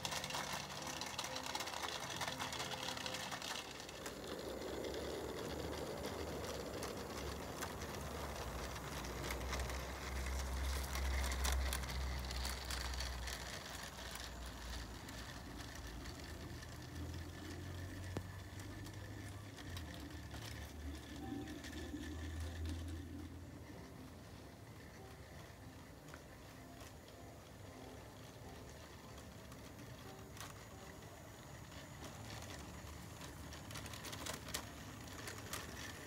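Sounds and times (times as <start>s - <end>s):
model train wheels clicking and rattling: 0.0s - 36.0s.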